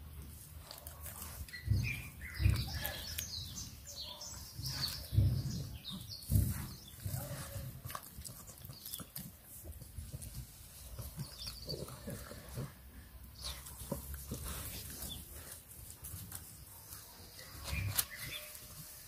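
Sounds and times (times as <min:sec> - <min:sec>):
puppy chewing a stick: 0:00.0 - 0:19.0.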